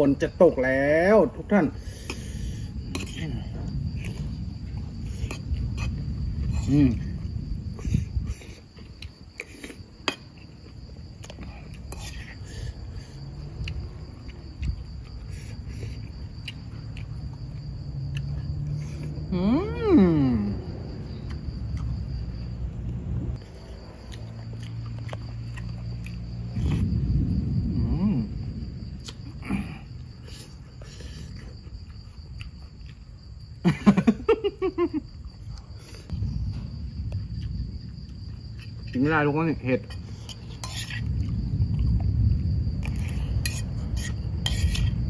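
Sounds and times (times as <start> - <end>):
crickets chirring: 0.0 - 45.0.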